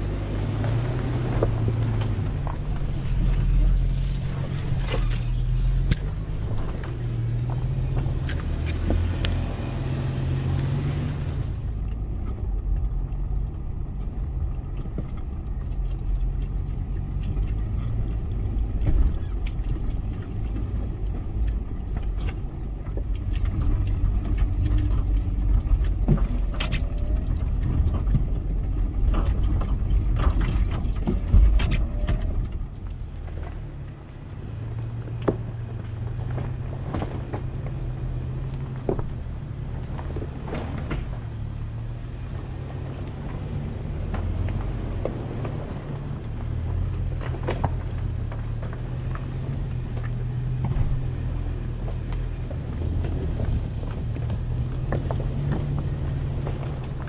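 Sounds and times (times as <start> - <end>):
vehicle engine and tyre rumble: 0.0 - 57.0.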